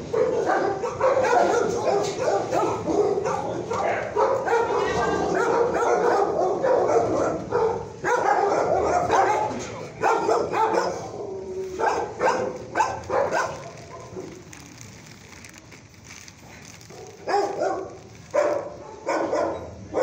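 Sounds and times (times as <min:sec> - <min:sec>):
dogs barking: 0:00.0 - 0:14.8, 0:16.6 - 0:20.0.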